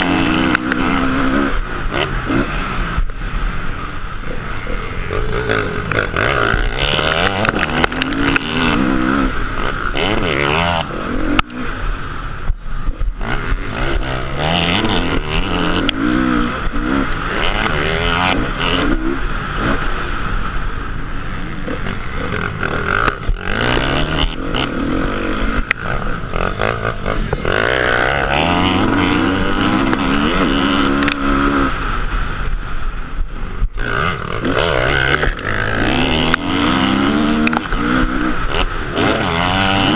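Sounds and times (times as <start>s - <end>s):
motocross motorcycle engine revving: 0.0s - 39.9s.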